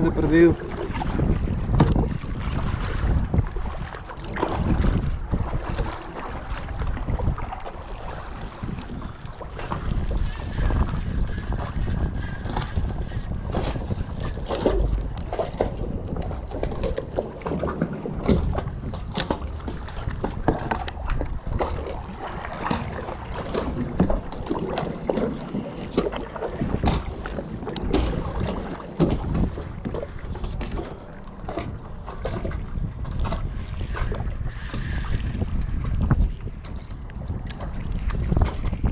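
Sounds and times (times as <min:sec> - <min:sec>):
water slapping against hull: 0:00.0 - 0:38.9
wind buffeting microphone: 0:00.0 - 0:38.9.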